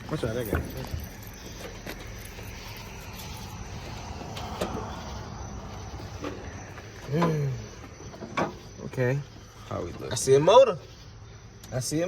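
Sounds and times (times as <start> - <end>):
distant vehicle rumble: 0.0 - 12.0.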